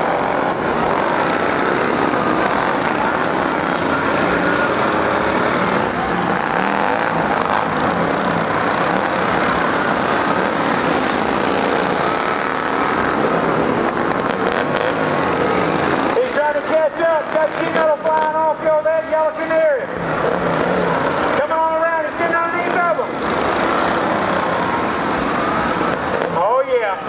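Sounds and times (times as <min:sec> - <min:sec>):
racing lawn mower engines: 0:00.0 - 0:27.0.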